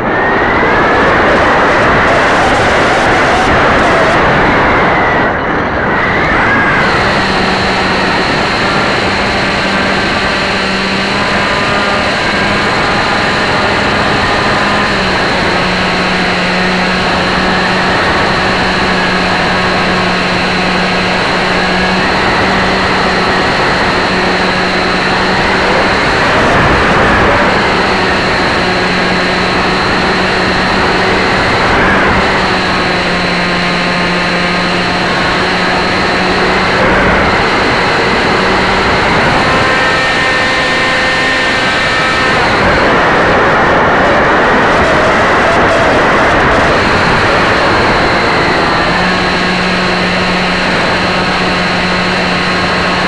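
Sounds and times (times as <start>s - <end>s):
electric motor and propeller: 0.0s - 43.8s, 44.4s - 53.0s.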